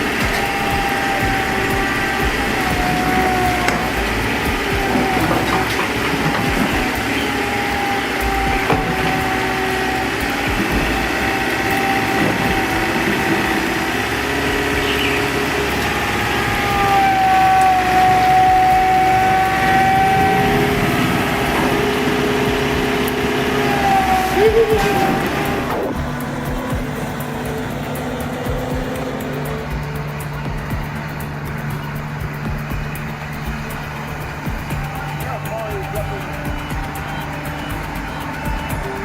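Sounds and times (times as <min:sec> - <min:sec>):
excavator engine running: 0:00.0 - 0:39.0
high steady whine: 0:00.0 - 0:39.0.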